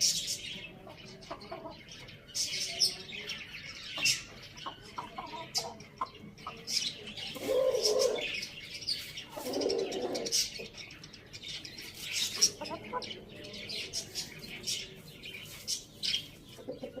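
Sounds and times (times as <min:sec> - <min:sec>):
chickens chirping: 0:00.0 - 0:17.0.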